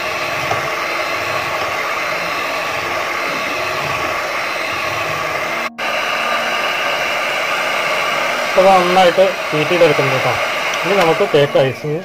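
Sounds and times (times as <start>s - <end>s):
electric hand mixer whipping cream: 0.0s - 12.0s.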